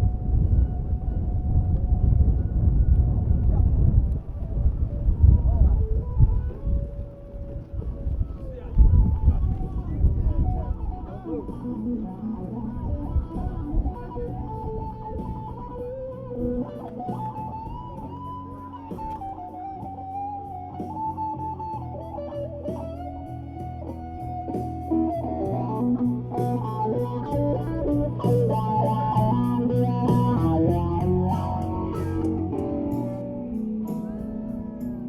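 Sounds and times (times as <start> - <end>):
bass line: 0.0 - 35.0
lead guitar melody: 0.0 - 35.0.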